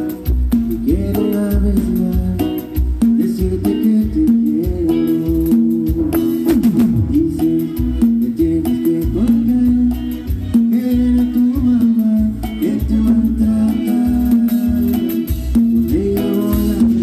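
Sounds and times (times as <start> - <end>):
electric bass: 0.0 - 17.0
hand percussion: 0.0 - 17.0
live band playing: 0.0 - 17.0.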